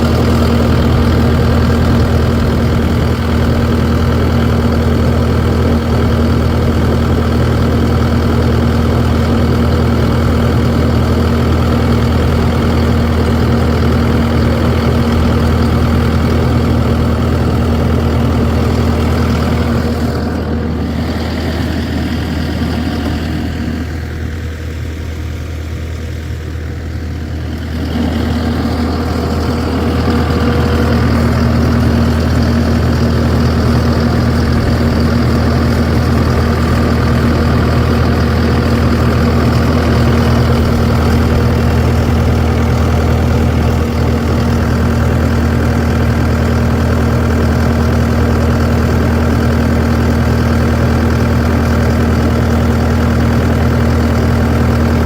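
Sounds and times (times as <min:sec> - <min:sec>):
heavy engine idling: 0:00.0 - 0:55.0.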